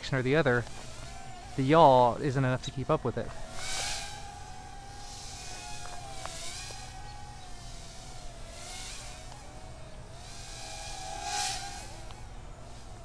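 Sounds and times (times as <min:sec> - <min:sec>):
drone motors whining: 0:00.0 - 0:13.0
hissing swell: 0:00.0 - 0:13.0.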